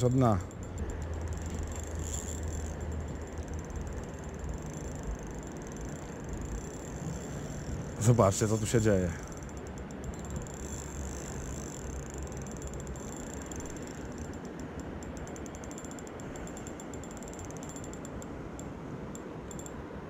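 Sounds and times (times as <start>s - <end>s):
fishing reel drag clicking: 0.0s - 18.7s, 19.5s - 19.8s.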